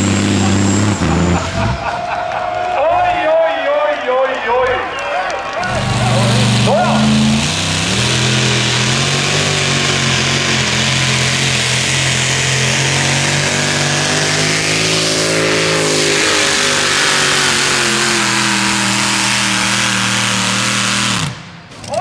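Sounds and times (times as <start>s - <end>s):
tractor diesel engine at high revs: 0.0s - 1.9s, 4.2s - 21.5s.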